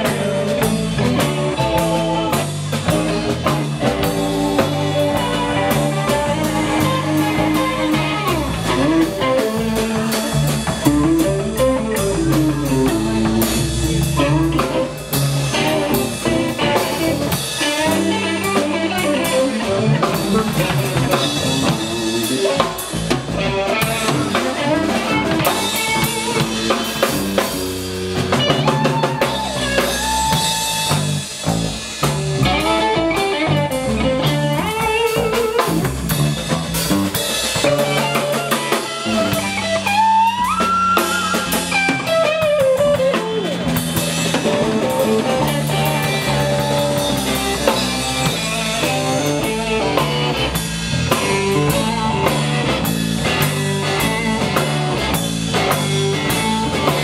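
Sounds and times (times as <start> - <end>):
electric guitar bending notes: 0.0 - 57.0
rock band playing: 0.0 - 57.0.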